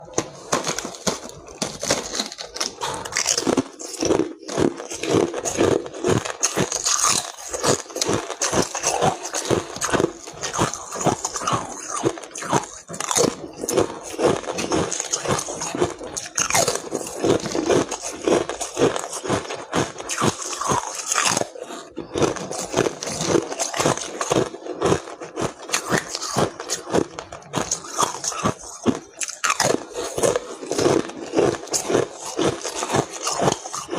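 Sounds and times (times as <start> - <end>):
person crunching ice: 0.0 - 33.9.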